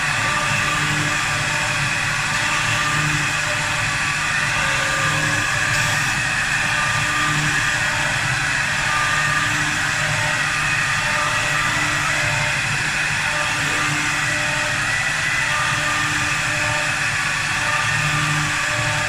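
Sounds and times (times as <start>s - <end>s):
lathe machine whine: 0.0s - 19.0s
wood cutting noise: 0.0s - 19.0s.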